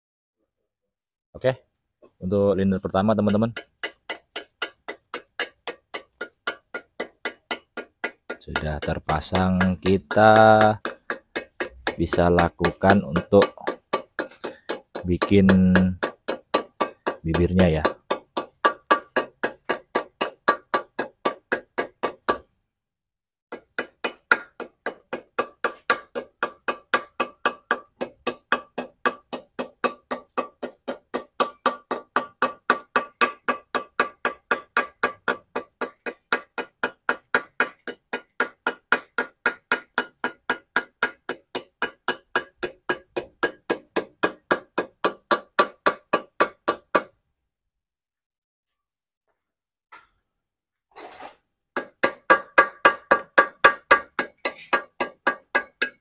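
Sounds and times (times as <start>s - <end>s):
small hammer tapping metal: 2.8s - 22.4s, 23.5s - 47.1s, 51.8s - 56.0s.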